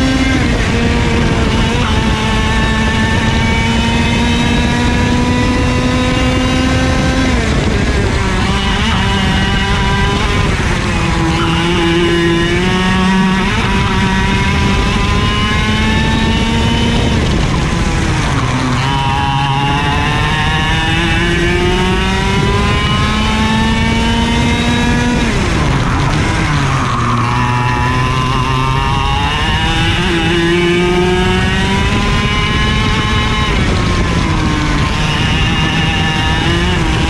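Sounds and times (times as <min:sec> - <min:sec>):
two-stroke kart engine: 0:00.0 - 0:37.0.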